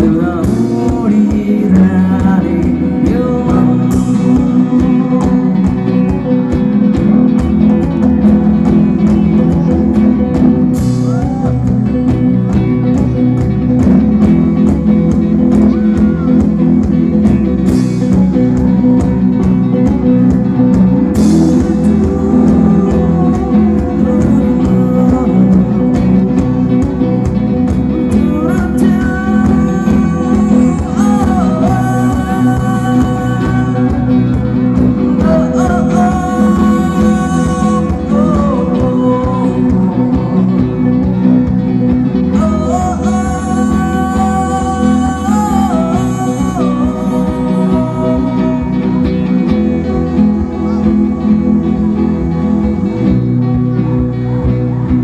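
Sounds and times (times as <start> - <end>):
man singing: 0.0 - 12.0, 20.0 - 41.2, 42.2 - 53.3
acoustic guitar: 0.0 - 55.0
drum kit beat: 0.0 - 55.0
electric guitar: 0.0 - 55.0.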